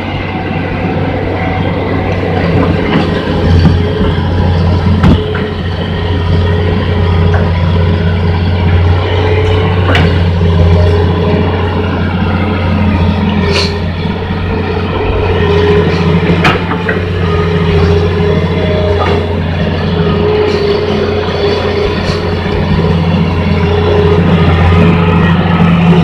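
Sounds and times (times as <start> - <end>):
excavator diesel engine running: 0.0 - 26.0
hydraulic whine: 0.0 - 26.0.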